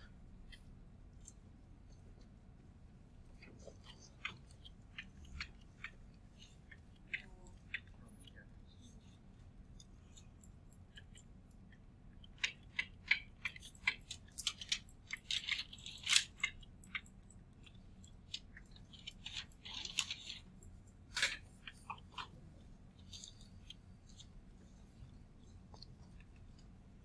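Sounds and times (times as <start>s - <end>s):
stylus tapping and scratching on touchscreen: 0.0s - 27.0s.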